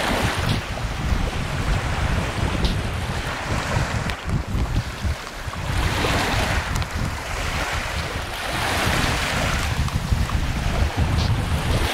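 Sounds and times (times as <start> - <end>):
waves lapping on beach: 0.0 - 11.9
wind buffeting microphone: 0.0 - 11.9.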